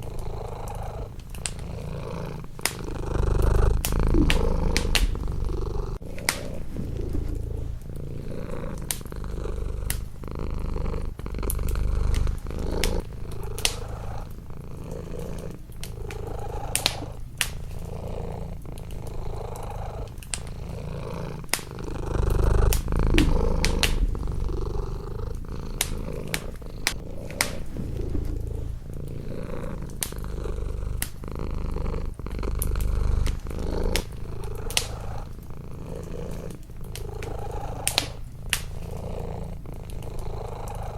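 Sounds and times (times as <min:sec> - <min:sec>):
wood fire crackling and popping: 0:00.0 - 0:40.7
cat purring: 0:00.0 - 0:40.9.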